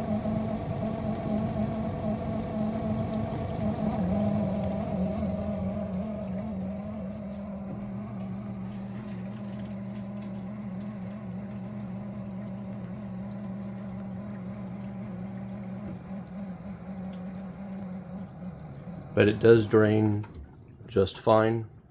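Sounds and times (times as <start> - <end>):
deeper hum: 0.0 - 21.9
dishwasher pump humming: 0.0 - 21.9.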